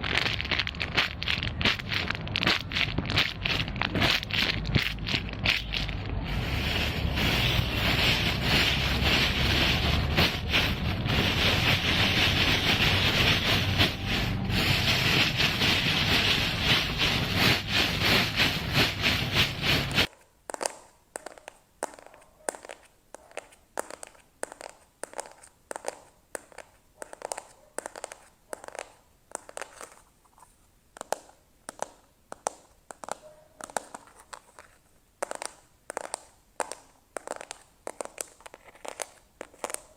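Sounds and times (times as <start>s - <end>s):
close scratching and crackling: 0.0s - 39.9s.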